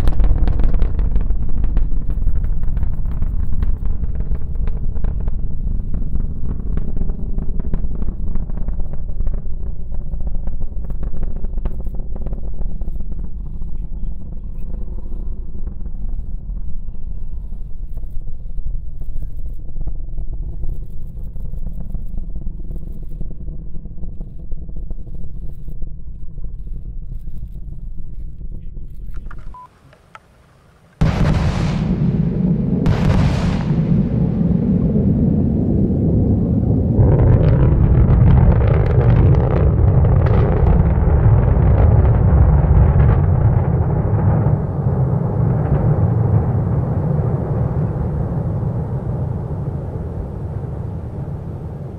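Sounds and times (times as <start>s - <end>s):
distant rocket engine rumble: 0.0s - 51.9s.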